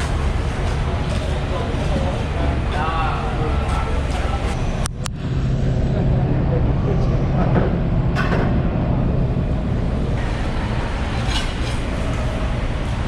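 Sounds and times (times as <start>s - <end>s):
market background rumble: 0.0s - 13.0s.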